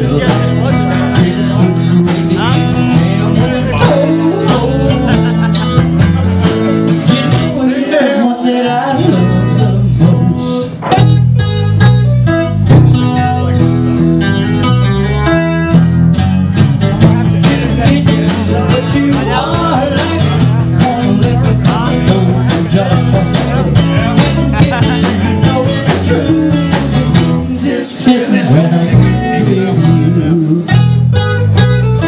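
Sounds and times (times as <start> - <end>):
steady drum beat: 0.0 - 7.8, 9.1 - 14.8, 15.7 - 32.0
live band playing: 0.0 - 32.0.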